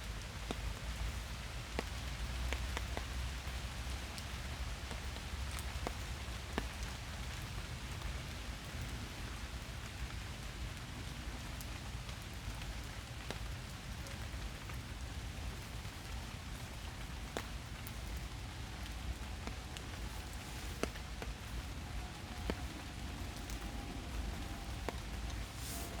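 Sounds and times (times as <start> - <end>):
raindrops ticking on surfaces: 0.0 - 26.0
steady rain hiss: 0.0 - 26.0.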